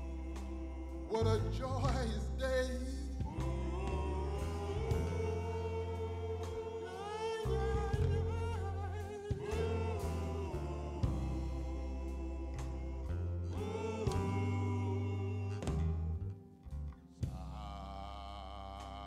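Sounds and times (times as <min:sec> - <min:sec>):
low bass notes: 0:00.0 - 0:19.0.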